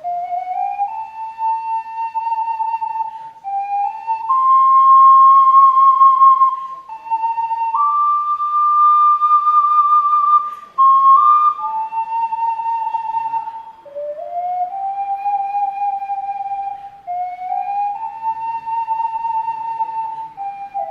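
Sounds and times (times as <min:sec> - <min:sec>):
ocarina playing slow melody: 0:00.0 - 0:20.9.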